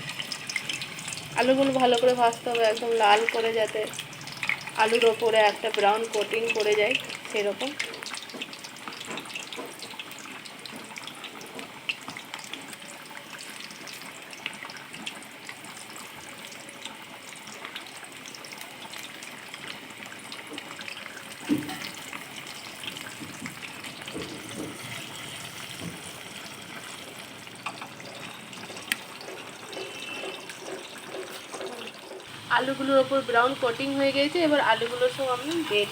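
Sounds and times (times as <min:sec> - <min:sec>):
potatoes sizzling in hot oil: 0:00.0 - 0:35.9.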